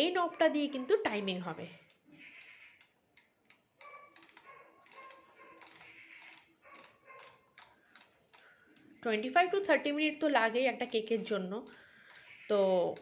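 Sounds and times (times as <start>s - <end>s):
microwave dial clicking: 1.8s - 13.0s.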